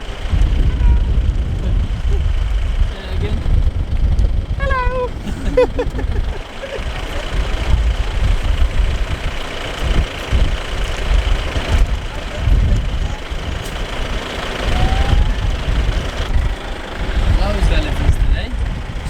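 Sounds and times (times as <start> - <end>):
jeep engine running: 0.0 - 19.0
wind rumbling on microphone: 0.0 - 19.0.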